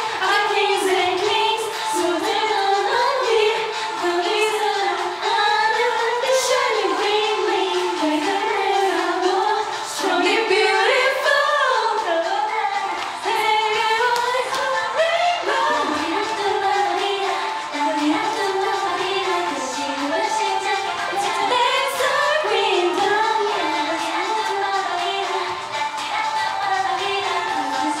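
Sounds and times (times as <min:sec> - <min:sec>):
pop song with female vocals: 0:00.0 - 0:28.0.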